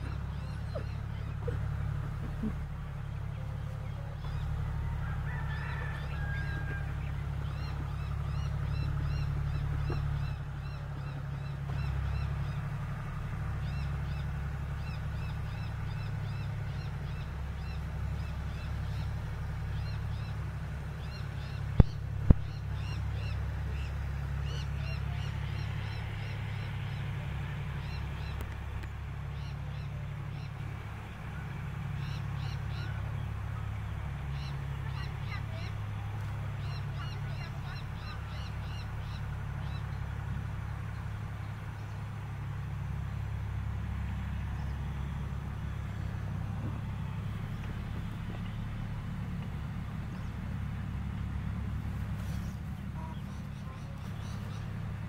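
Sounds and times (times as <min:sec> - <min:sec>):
birds chirping: 0:00.0 - 0:55.0
steady low rumble: 0:00.0 - 0:55.0.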